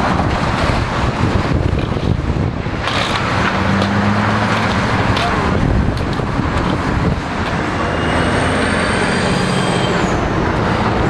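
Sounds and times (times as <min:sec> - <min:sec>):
diesel trucks running: 0:00.0 - 0:11.0
highway traffic passing: 0:00.0 - 0:11.0.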